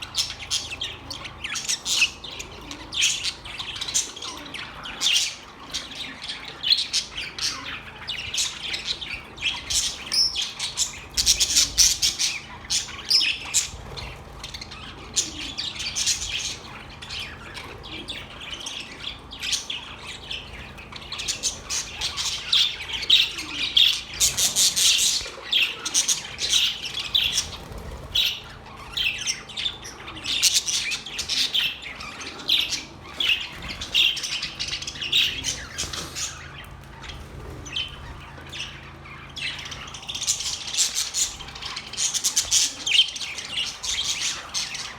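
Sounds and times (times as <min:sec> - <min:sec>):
parrots chirping and squawking: 0:00.0 - 0:44.9.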